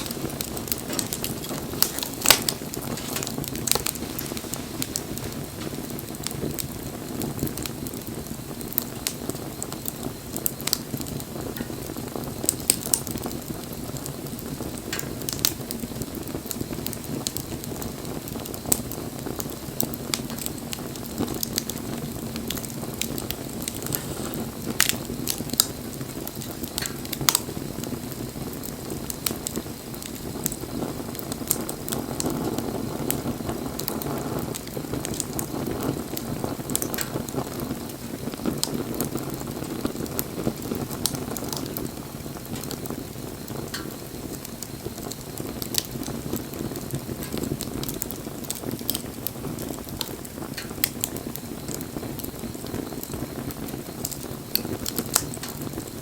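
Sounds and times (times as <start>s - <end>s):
campfire flames rumbling: 0.0s - 56.0s
wood popping and crackling: 0.0s - 56.0s.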